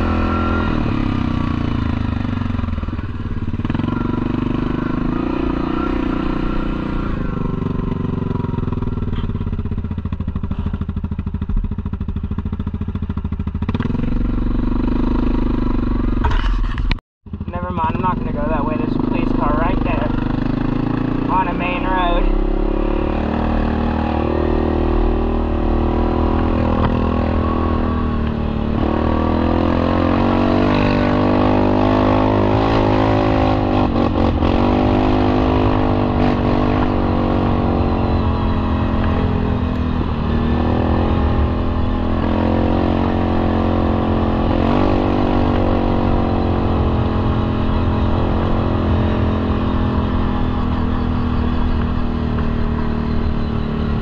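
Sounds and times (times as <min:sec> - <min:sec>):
four-wheeler engine running: 0:00.0 - 0:54.0.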